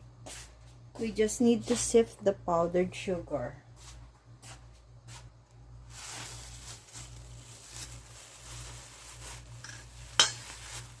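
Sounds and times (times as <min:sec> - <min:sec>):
rustling and scraping of sifter: 0:00.2 - 0:02.0, 0:03.7 - 0:11.0.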